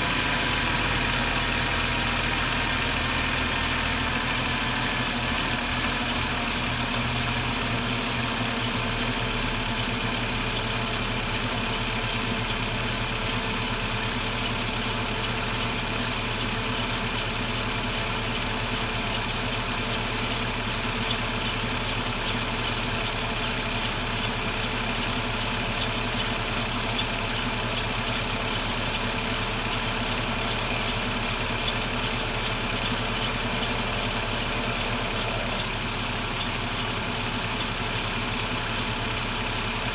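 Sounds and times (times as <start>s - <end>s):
car engine idling: 0.0s - 39.9s
high-pitched rhythmic squeak: 0.0s - 39.9s.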